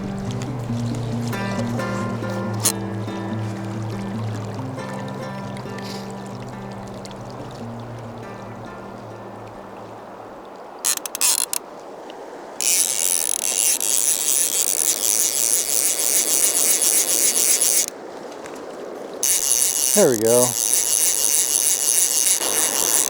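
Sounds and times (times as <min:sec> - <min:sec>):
fishing reel drag buzzing: 0:00.0 - 0:10.2, 0:10.8 - 0:11.6, 0:12.6 - 0:17.9, 0:19.2 - 0:23.0.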